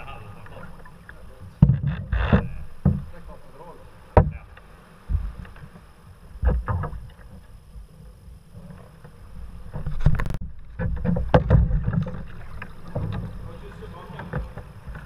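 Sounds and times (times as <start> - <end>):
paddle splashing water: 0.0 - 15.0
water lapping at hull: 0.0 - 15.0.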